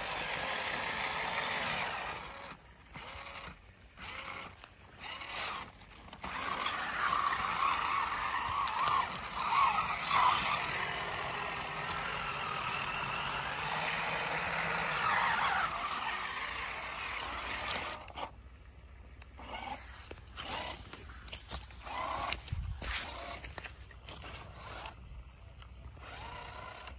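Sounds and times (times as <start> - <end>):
toy truck electric motor whining: 0.0 - 18.5, 19.1 - 26.9
wheels scraping wet dirt: 0.0 - 18.5, 19.1 - 25.1.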